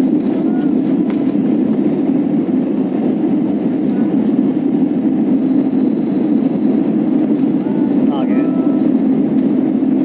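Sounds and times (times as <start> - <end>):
airliner rushing noise: 0.0 - 10.0.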